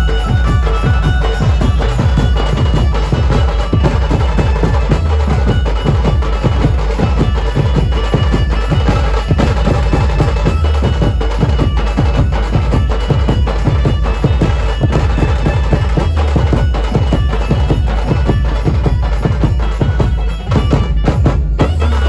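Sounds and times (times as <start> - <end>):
bass drums pounding: 0.0 - 22.0
loud fast drumming: 0.0 - 22.0.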